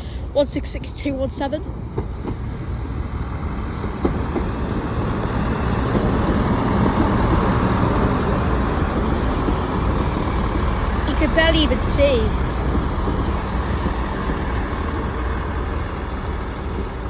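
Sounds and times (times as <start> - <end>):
diesel train engine rumble: 0.0 - 17.0
train wheels on rails: 0.7 - 17.0.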